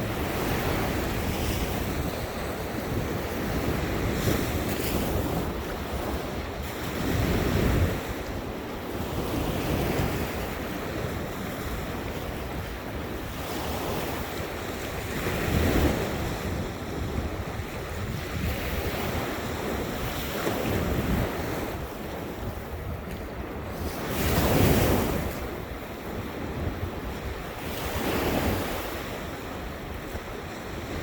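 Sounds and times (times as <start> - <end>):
ocean surf washing onto beach: 0.0 - 31.0
wind buffeting microphone: 0.0 - 31.0.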